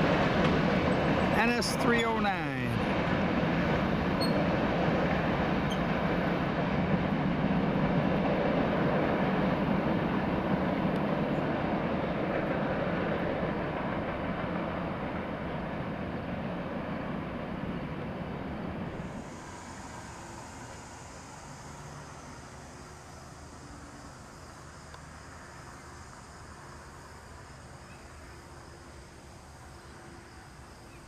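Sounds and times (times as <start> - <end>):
freight train wheels rumbling: 0.0 - 27.5
open-air background: 0.0 - 31.0.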